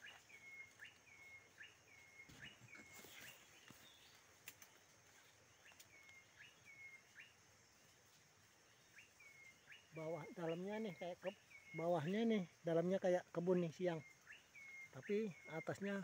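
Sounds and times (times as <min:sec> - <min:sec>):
forest bird calling: 0:00.0 - 0:16.0.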